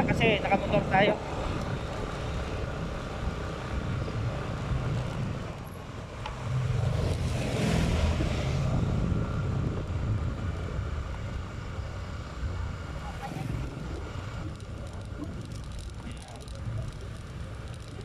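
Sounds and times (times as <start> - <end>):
engine and road rumble: 0.0 - 18.0
wind on microphone: 0.0 - 18.0.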